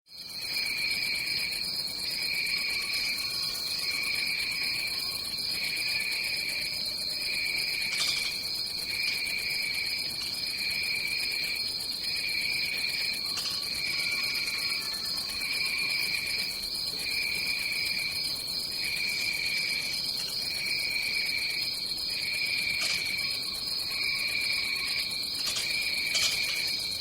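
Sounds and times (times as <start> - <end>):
lower insect call pulsing: 0.1 - 27.0
high-pitched insect drone: 0.8 - 27.0.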